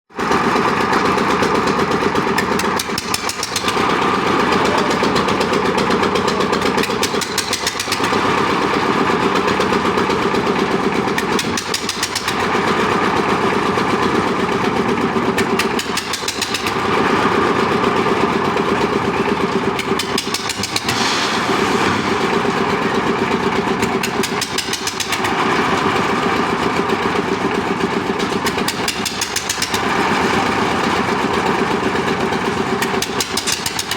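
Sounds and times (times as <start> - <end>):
concrete mixer engine running: 0.1 - 33.9.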